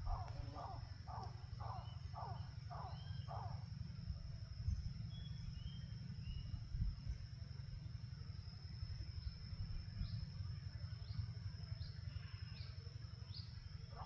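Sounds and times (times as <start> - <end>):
high-pitched insect whine: 0.0 - 14.0.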